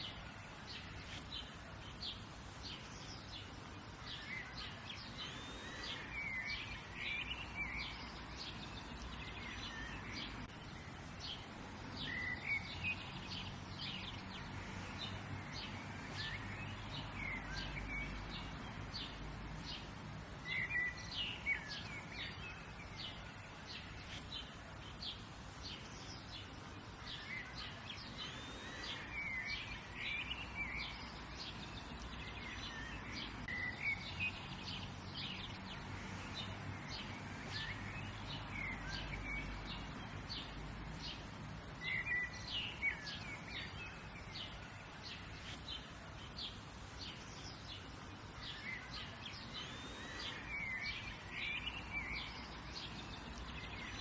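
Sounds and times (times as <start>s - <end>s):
birds chirping and calling: 0.0s - 19.9s, 20.5s - 41.2s, 41.8s - 54.0s.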